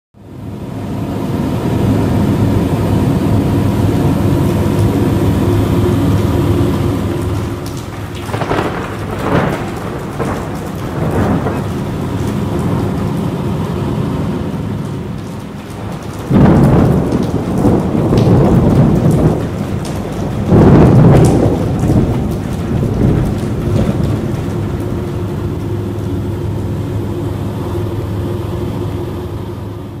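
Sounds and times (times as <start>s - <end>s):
light aircraft engine droning: 0.2s - 30.0s
rain drumming on canopy: 0.4s - 30.0s.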